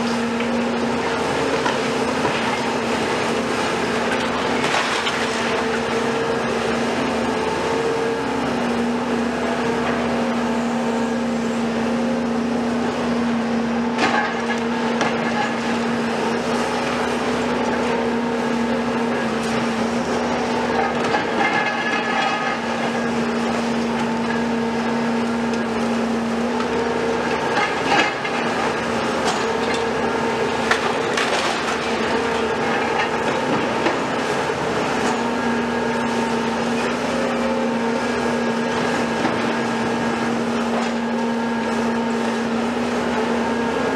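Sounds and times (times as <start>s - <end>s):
excavator engine and hydraulic drone: 0.0s - 43.9s.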